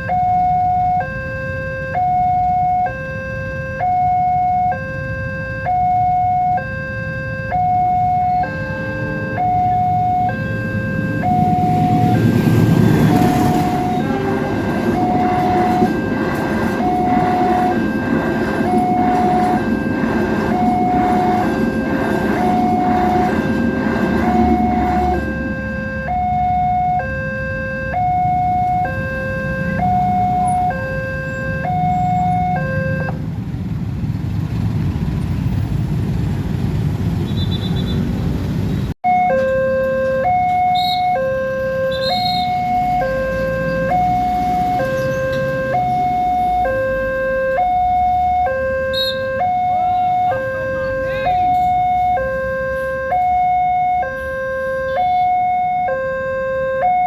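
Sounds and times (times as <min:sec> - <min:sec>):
two-tone crossing warning alarm: 0:00.0 - 0:33.2, 0:39.0 - 0:57.0.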